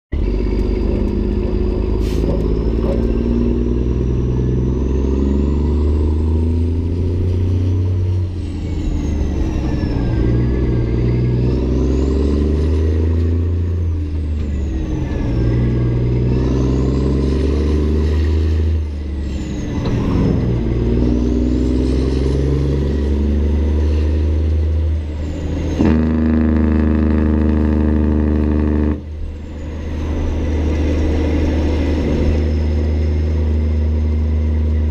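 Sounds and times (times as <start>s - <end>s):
diesel truck engine accelerating: 0.1s - 34.9s.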